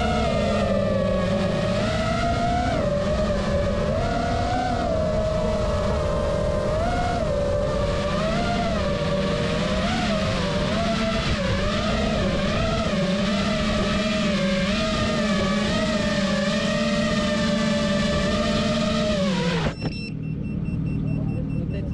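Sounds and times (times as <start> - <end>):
motor running at high revs: 0.0 - 19.9.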